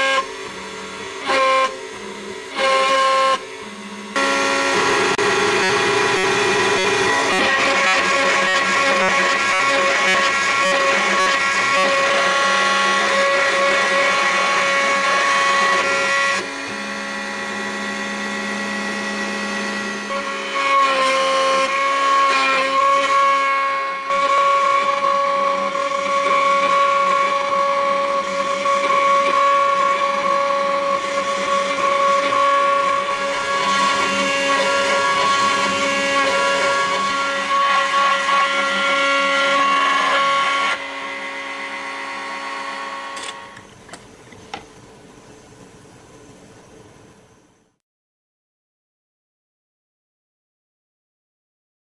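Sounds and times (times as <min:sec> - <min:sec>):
engraving machine spindle whine: 0:00.0 - 0:44.6.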